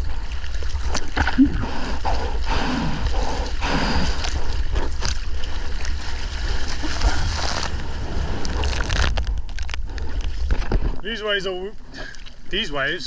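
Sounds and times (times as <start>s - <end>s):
seawater splashing: 0.0s - 13.0s.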